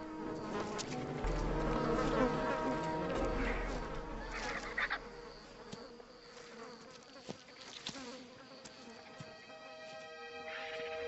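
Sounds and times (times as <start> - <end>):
flies buzzing: 0.0 - 11.0.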